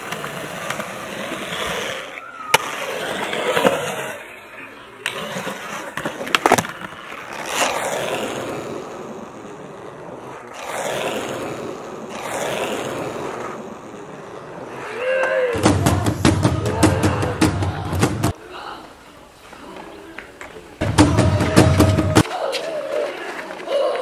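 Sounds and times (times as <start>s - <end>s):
skateboard clacks: 0.0s - 18.4s, 19.6s - 24.0s
skateboard wheels rolling on concrete: 0.0s - 24.0s.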